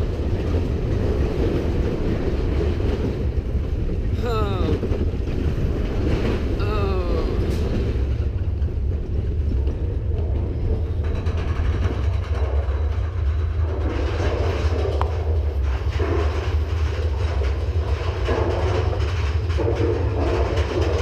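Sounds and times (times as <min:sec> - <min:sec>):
roller coaster rumbling on track: 0:00.0 - 0:21.0.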